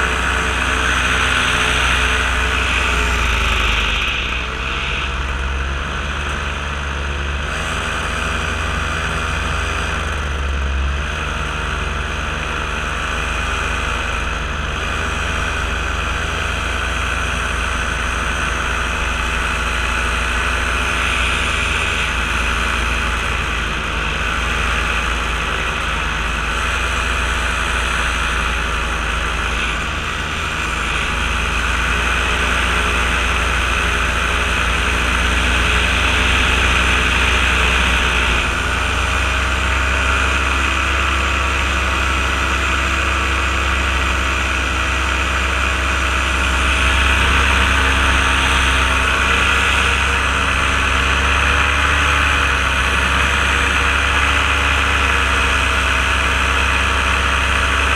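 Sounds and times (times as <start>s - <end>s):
paramotor engine running: 0.0s - 57.9s.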